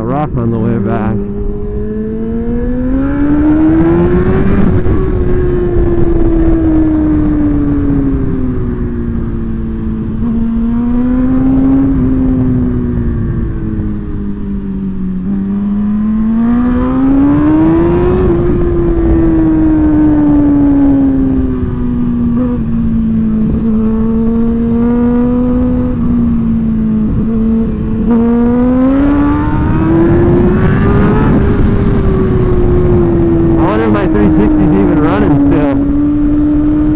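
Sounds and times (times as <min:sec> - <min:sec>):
motorcycle engine revving: 0:00.0 - 0:36.9
wind and road noise: 0:00.0 - 0:36.9.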